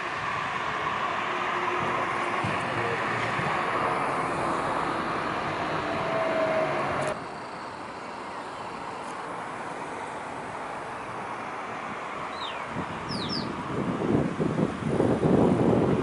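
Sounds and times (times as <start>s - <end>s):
distant traffic: 0.0s - 16.0s
road traffic driving past: 0.0s - 16.0s.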